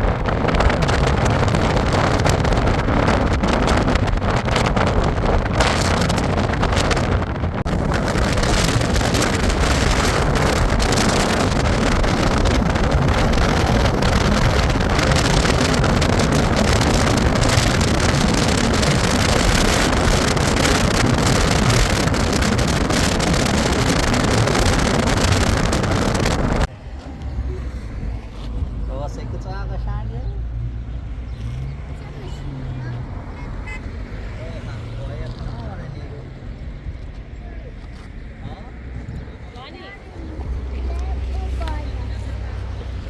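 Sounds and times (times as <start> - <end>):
wind buffeting microphone: 0.0 - 29.5, 30.2 - 43.0.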